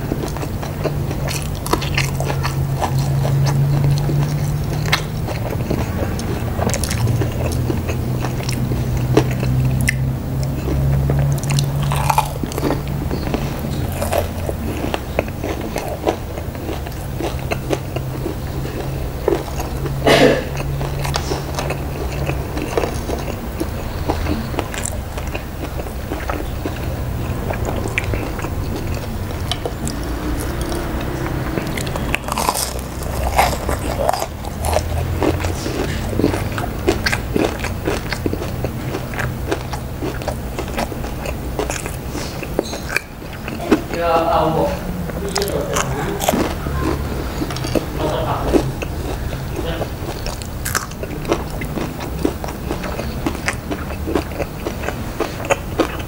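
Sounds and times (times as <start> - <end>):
crunching fried tofu: 0.0 - 44.2, 45.1 - 56.0.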